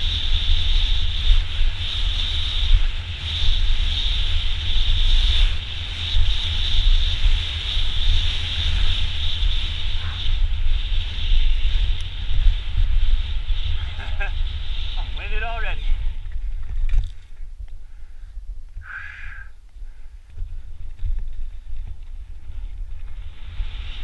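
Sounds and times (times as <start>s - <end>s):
high hiss of bike ride: 0.0s - 24.0s
wind buffeting microphone: 0.0s - 24.0s.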